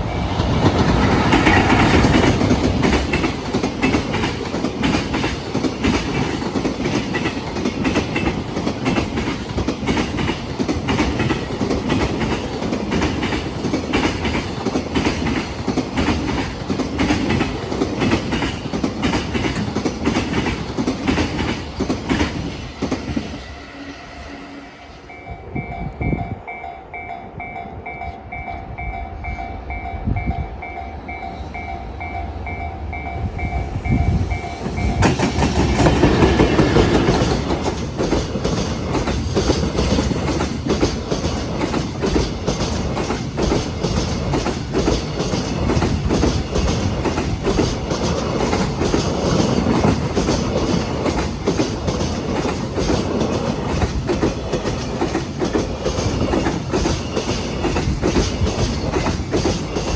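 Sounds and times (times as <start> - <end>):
freight train wheels clattering: 0.0 - 24.3, 30.6 - 59.9.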